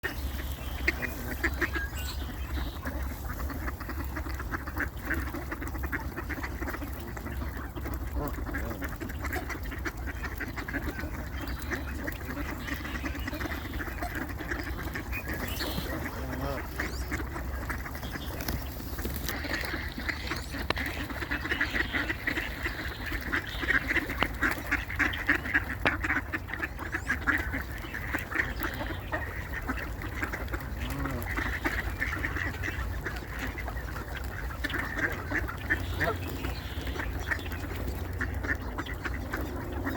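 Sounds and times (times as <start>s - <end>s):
ducks and geese calling: 0.0s - 39.9s.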